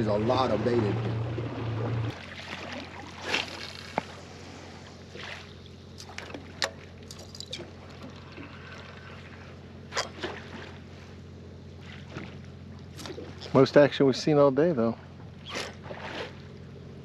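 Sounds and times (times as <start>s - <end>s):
short splashes: 0.0s - 13.9s, 14.9s - 16.8s
low steady hum: 0.0s - 17.0s
water lapping against a hull: 0.0s - 17.0s.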